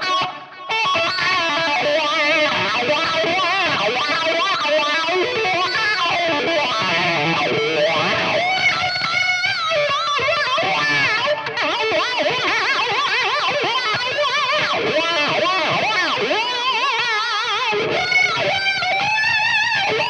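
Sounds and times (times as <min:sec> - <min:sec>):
electric guitar with wah effect: 0:00.0 - 0:20.0.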